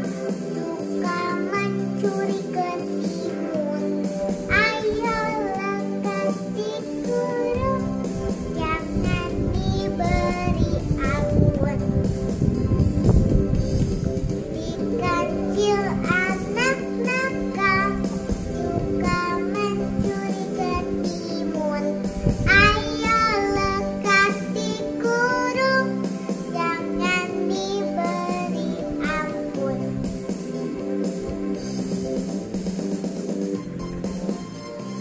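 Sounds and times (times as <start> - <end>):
girl singing: 0.0 - 13.0, 14.4 - 30.0
musical backing track: 0.0 - 35.0.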